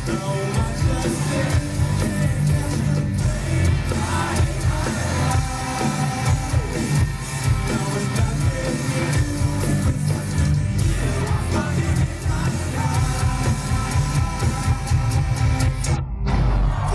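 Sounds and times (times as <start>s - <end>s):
live rock band playing: 0.0s - 16.9s.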